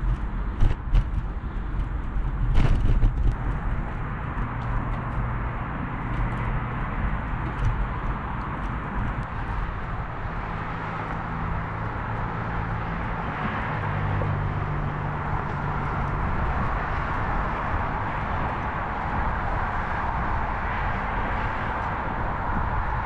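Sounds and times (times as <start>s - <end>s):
rushing wind: 0.0s - 23.0s.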